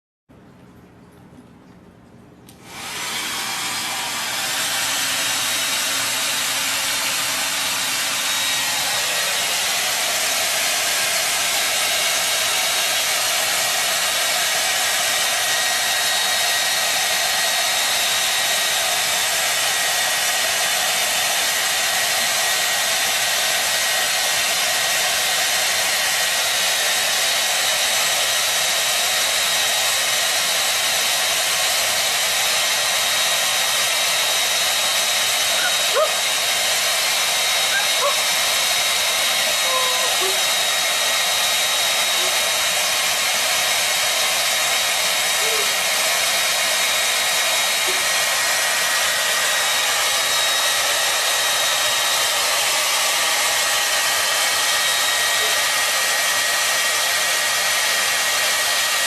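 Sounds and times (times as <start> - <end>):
hair dryer running: 2.5 - 59.0.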